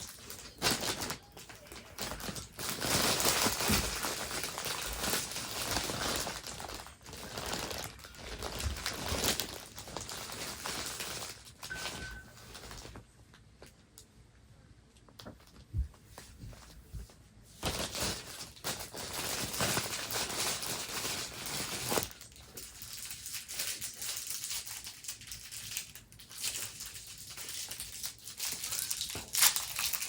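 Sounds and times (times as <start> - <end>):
plastic packaging crinkling: 0.0 - 13.0, 17.6 - 30.0.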